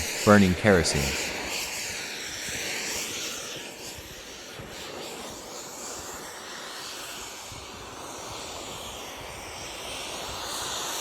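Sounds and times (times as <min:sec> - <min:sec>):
model jet turbine hissing: 0:00.0 - 0:11.0.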